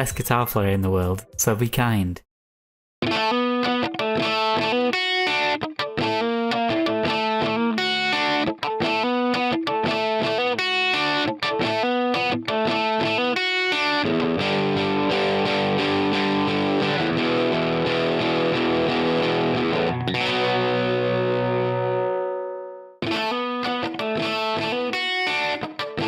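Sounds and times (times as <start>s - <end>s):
distorted electric guitar riff: 3.0s - 26.0s.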